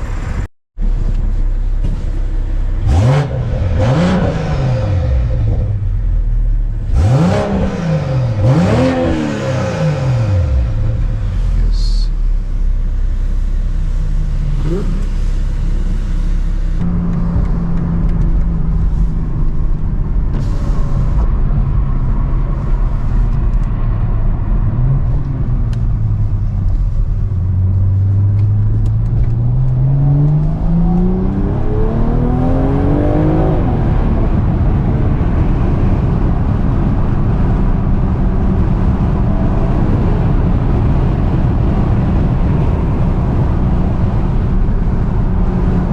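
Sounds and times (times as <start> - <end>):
car engine accelerating: 0.0 - 45.9
road and wind noise: 0.0 - 45.9.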